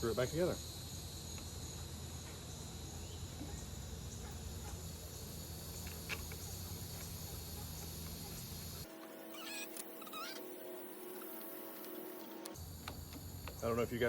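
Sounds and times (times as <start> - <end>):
insect chirring: 0.0 - 14.0.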